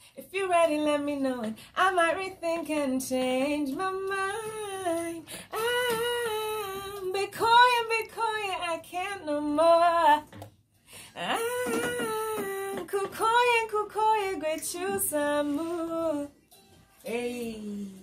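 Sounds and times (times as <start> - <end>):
woman singing into a microphone: 0.2 - 10.4, 11.1 - 16.4, 17.0 - 18.0.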